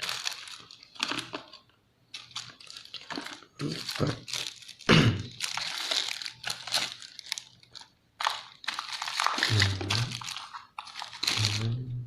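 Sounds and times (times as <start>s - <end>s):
plastic bags crinkling and rustling: 0.0s - 11.9s.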